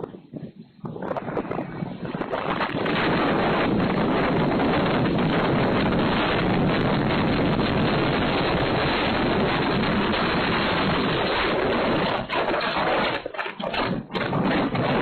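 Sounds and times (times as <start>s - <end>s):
wind blowing on microphone: 0.0s - 15.0s.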